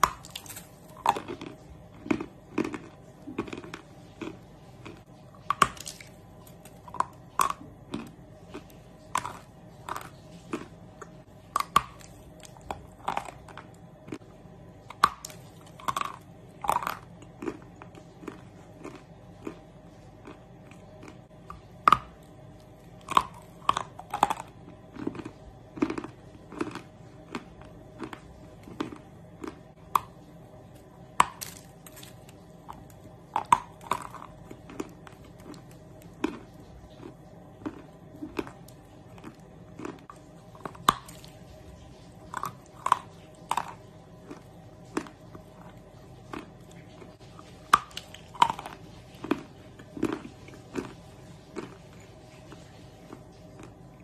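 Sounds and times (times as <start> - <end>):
grinding chews: 0.0 - 54.0.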